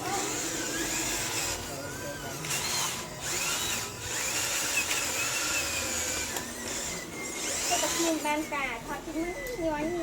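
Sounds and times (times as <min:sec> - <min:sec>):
toy electric motor whining: 0:00.0 - 0:10.0.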